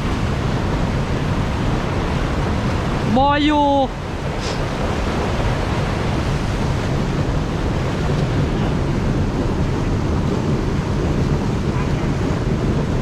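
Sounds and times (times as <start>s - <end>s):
water rushing over a weir: 0.0s - 13.0s.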